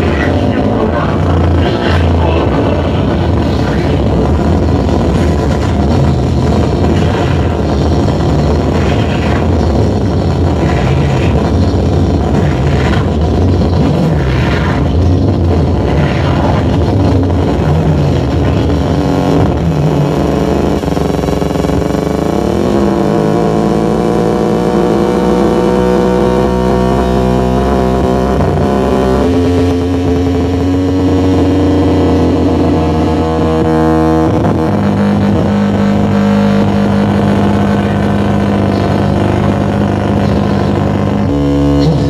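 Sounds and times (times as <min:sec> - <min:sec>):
distorted electronic rumble: 0:00.0 - 0:42.0
layered droning tones: 0:00.0 - 0:42.0.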